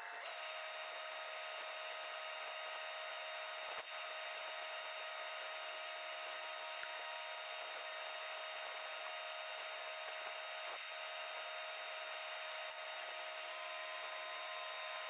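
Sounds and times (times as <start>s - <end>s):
faint constant whine: 0.0s - 15.0s.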